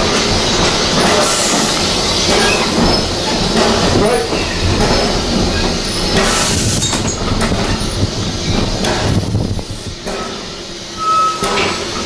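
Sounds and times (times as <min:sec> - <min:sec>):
train carriage knocks: 0:00.0 - 0:10.6
train wheels rumbling on rails: 0:00.0 - 0:12.0.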